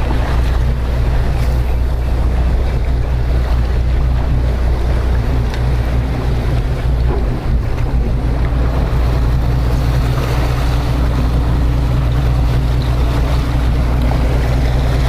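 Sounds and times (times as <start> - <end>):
boat engine drone: 0.0 - 15.0
water rushing: 0.0 - 15.0
wind buffeting microphone: 0.0 - 15.0.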